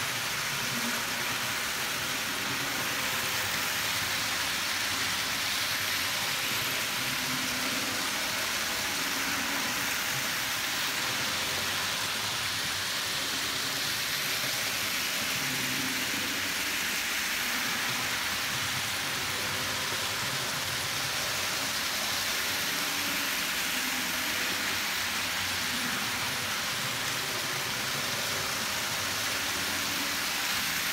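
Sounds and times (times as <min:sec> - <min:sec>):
model trains rolling on rails: 0:00.0 - 0:30.9.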